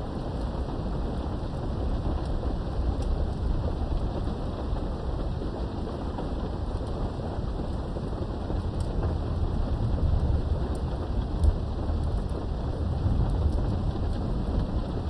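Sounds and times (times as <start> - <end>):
low thunder rumble: 0.0 - 15.0
steady rain: 0.0 - 15.0.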